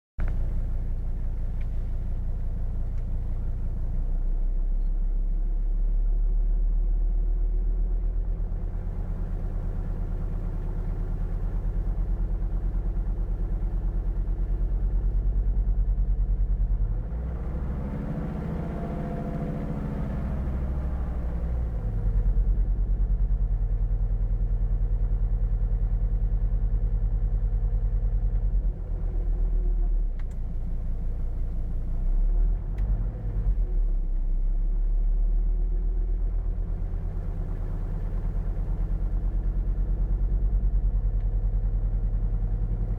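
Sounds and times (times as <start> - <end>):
diesel engine idling and revving: 0.2 - 42.9.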